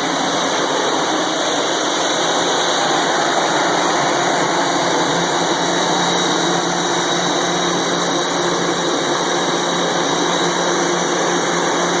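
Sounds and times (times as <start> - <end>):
air compressor droning: 0.0 - 12.0
high machine whine: 0.0 - 12.0.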